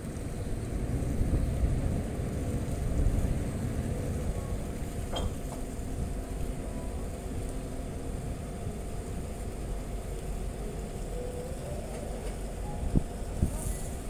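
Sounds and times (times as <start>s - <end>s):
ship engines rumbling: 0.0s - 14.0s.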